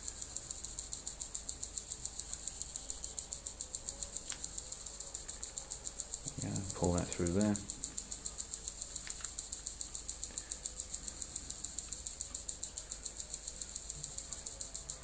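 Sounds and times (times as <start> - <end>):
insect chirring: 0.0 - 15.0.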